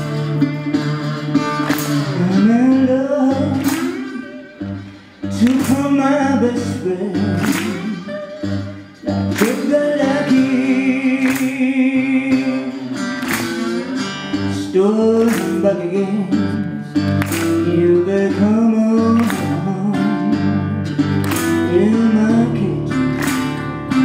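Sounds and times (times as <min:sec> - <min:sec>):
sharp percussive accent: 0:00.0 - 0:16.1, 0:17.0 - 0:19.8, 0:20.8 - 0:24.0
resonator guitar: 0:00.0 - 0:24.0.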